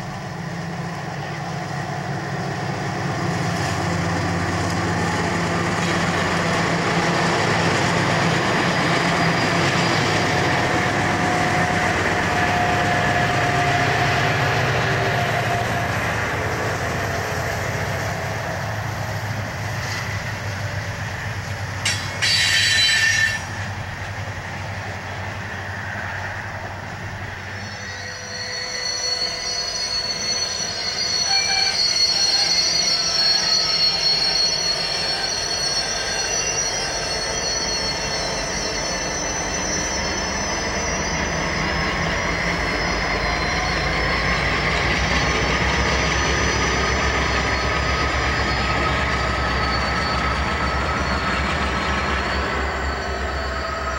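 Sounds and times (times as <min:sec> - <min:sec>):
diesel locomotive rumble: 0:00.0 - 0:53.9
train wheel squeal: 0:00.0 - 0:53.9.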